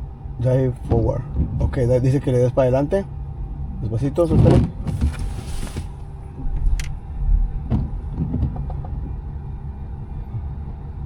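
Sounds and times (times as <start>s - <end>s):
pickup truck engine running: 0.0s - 11.0s.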